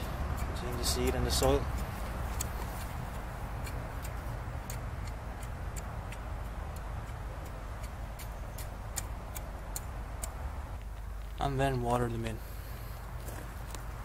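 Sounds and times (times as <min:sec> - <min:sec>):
rake ticking on soil: 0:00.0 - 0:14.0.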